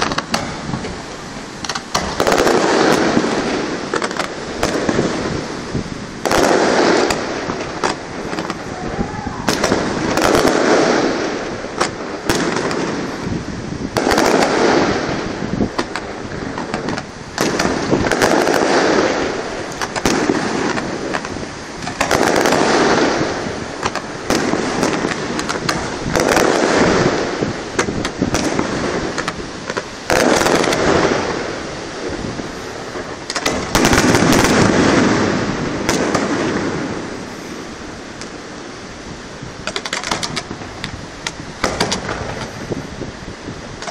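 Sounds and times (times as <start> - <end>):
sharp firework pops and bangs: 0.0 - 8.7, 9.3 - 38.6, 39.6 - 42.8
firework shells booming: 0.0 - 43.0.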